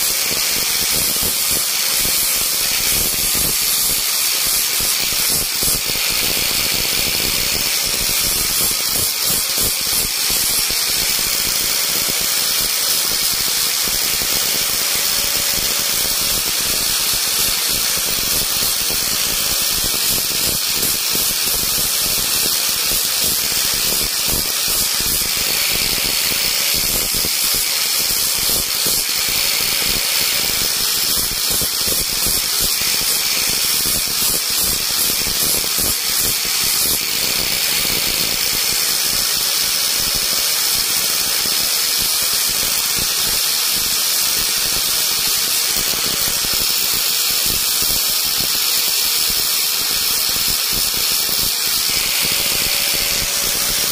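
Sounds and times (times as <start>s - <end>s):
rotary tool carving wood: 0.0s - 53.9s.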